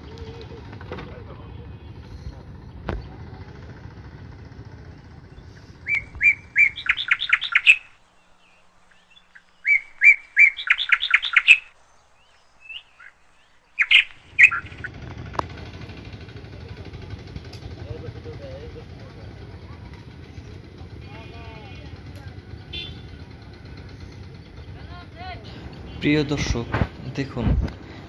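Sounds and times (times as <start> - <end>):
songbird singing: 0.0 - 27.2.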